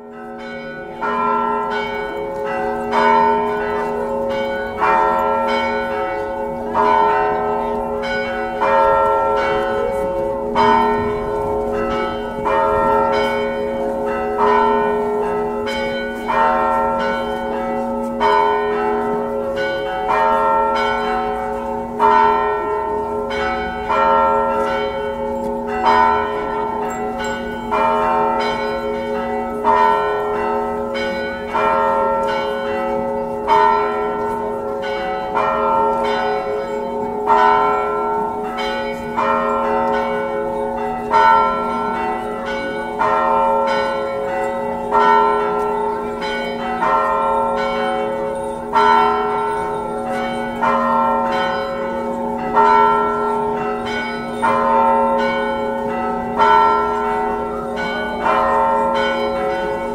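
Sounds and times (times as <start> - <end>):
church bells pealing: 0.0 - 59.9.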